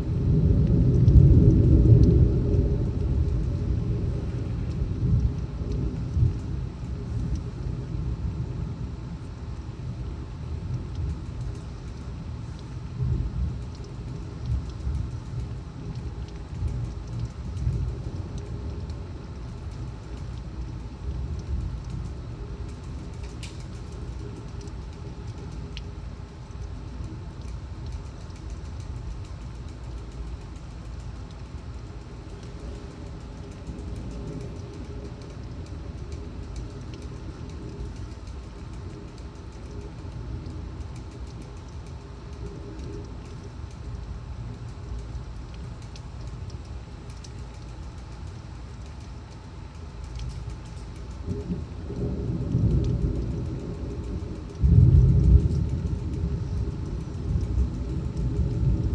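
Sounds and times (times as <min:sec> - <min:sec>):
heavy rain: 0:00.0 - 0:58.9
storm wind: 0:00.0 - 0:58.9
faint ticks: 0:00.4 - 0:07.5, 0:10.6 - 0:58.9.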